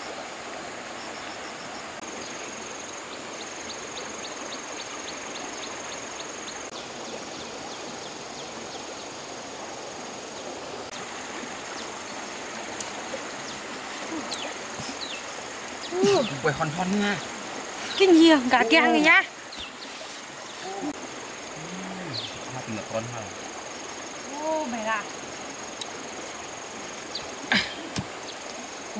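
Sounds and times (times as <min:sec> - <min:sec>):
insect trill: 0:00.0 - 0:28.9
stream rushing: 0:00.0 - 0:28.9.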